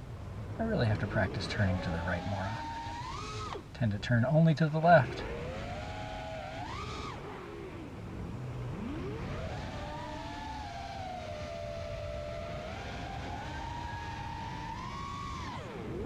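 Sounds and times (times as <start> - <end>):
quadcopter motors whining: 0.1 - 16.0.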